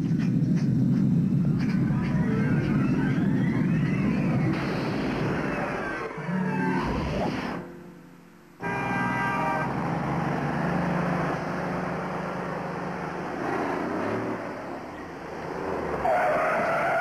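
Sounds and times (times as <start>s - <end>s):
car engines and passing vehicles: 0.0s - 17.0s.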